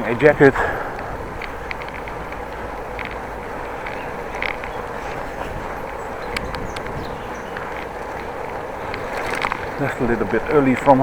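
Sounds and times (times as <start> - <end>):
bicycle rolling noise: 0.0 - 11.0
wind: 0.0 - 11.0.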